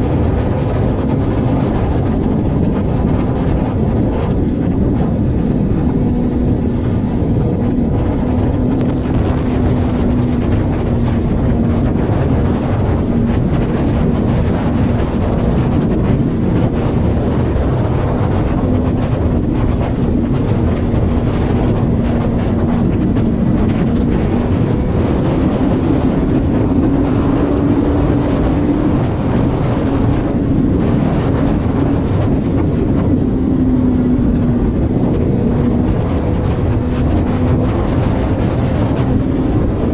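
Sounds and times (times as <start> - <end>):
engine drone: 0.0 - 39.9
road and wind noise: 0.0 - 39.9.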